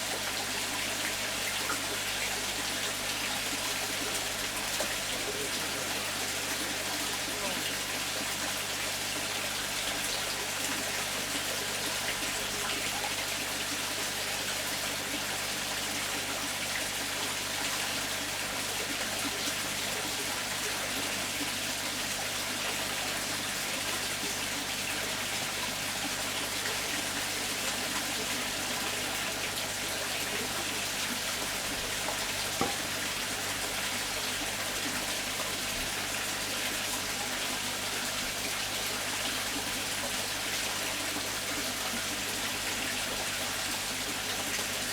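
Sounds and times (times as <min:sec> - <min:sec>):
running water splashing: 0:00.0 - 0:44.9.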